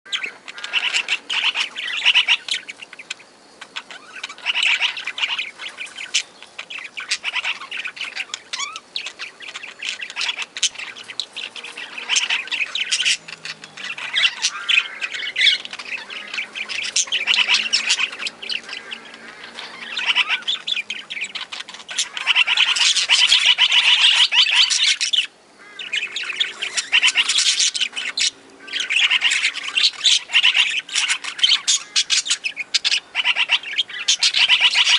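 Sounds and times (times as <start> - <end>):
parrots chattering and squawking: 0.1 - 34.9.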